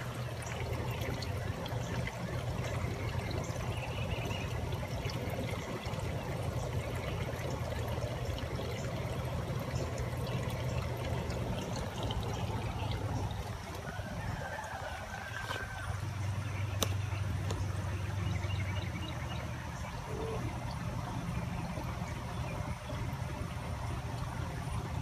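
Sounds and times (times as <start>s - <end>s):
runoff water flowing: 0.0s - 25.0s.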